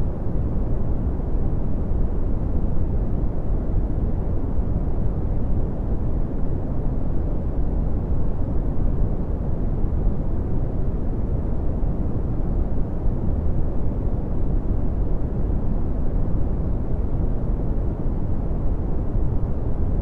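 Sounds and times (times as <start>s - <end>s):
deep rumbling brown noise: 0.0s - 20.0s.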